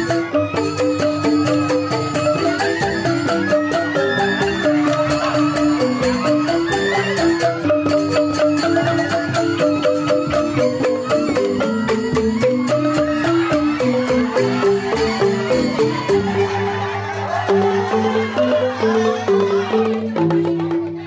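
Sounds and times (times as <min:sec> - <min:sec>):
bamboo flute: 0:00.0 - 0:20.1
bamboo xylophones playing: 0:00.0 - 0:21.0
drum: 0:00.0 - 0:21.0.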